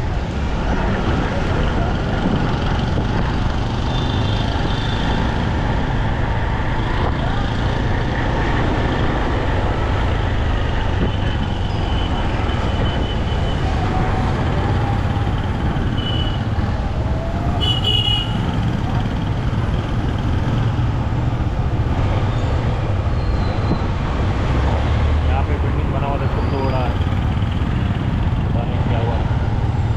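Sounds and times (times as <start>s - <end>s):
traffic engines rumbling: 0.0s - 29.9s.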